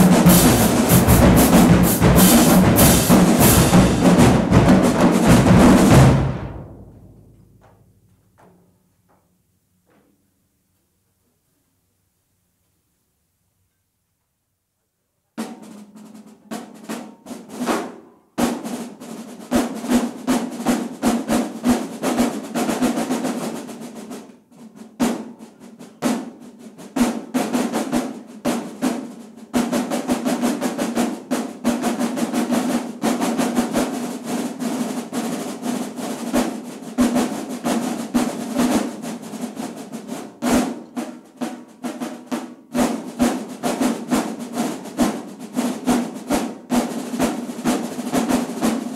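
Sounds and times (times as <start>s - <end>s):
drumline playing fast cadence: 0.0s - 7.6s, 15.4s - 48.9s.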